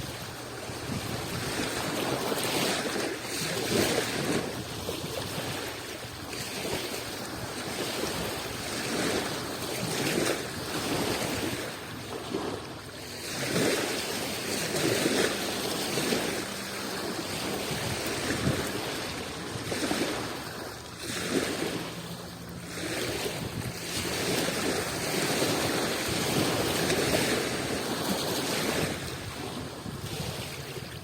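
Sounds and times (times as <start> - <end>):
sea waves washing in: 0.0 - 31.0
wind noise on microphone: 0.0 - 31.0.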